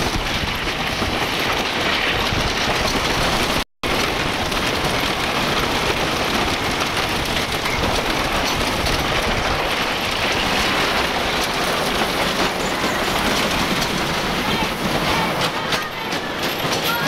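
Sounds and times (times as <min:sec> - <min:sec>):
roller coaster rumbling and rattling: 0:00.0 - 0:17.0.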